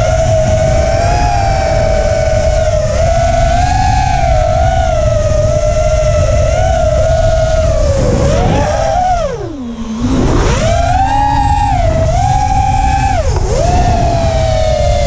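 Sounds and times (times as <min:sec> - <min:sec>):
quadcopter motors whining: 0:00.0 - 0:15.0
wind rushing: 0:00.0 - 0:15.0.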